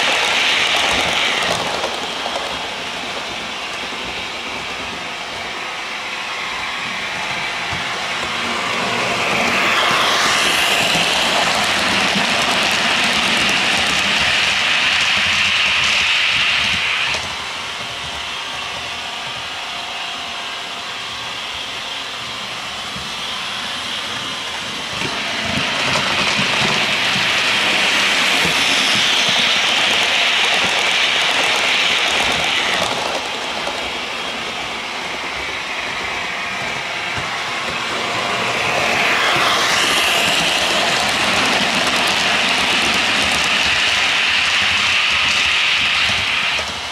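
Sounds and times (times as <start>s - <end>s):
model train wheels on rails: 0.0s - 46.9s.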